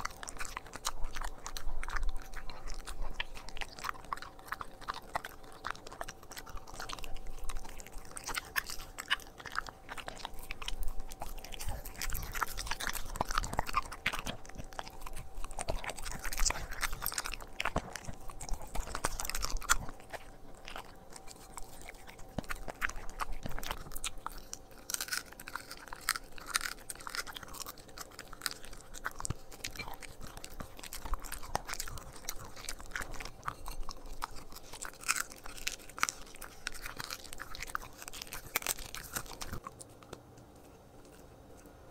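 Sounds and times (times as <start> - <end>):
dog chewing and crunching food: 0.0 - 41.9.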